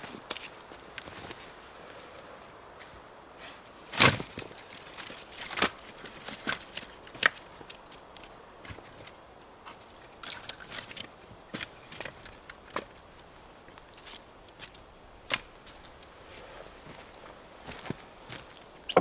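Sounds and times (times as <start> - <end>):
faint ticks and rustles: 0.0 - 19.0.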